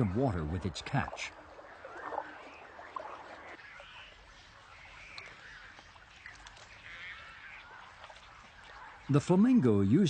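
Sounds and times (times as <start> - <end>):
birds calling faintly: 0.0 - 10.0.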